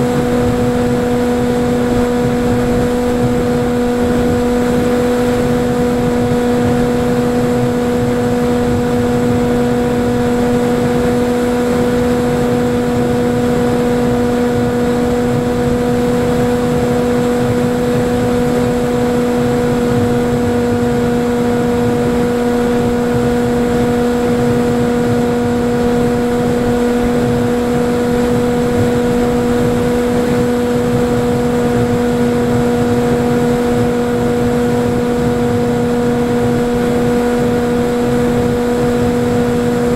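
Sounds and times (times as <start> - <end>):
electric motor and propeller: 0.0 - 39.9.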